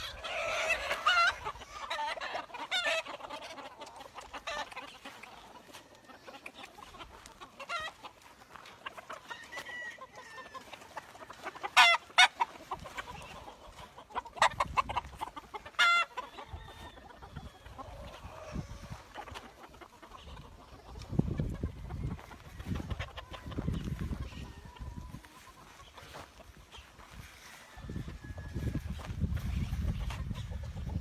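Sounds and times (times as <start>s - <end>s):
chickens clucking and calling: 0.0s - 31.0s.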